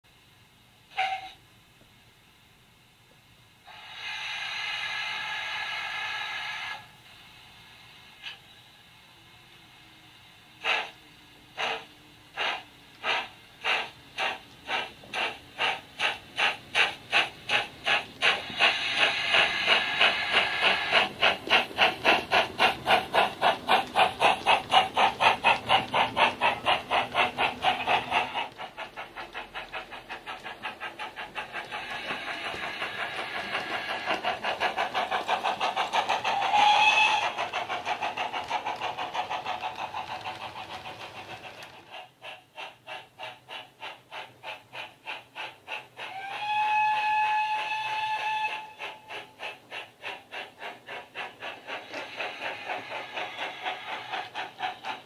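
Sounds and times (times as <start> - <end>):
steam locomotive chuffing: 0.2 - 1.4, 3.6 - 55.0
steam hiss: 0.2 - 1.5, 3.6 - 55.0.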